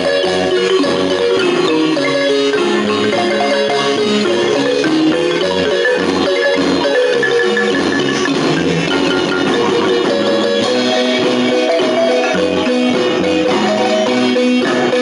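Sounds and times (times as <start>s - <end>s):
light percussion: 0.0s - 15.0s
marimba ensemble playing: 0.0s - 15.0s.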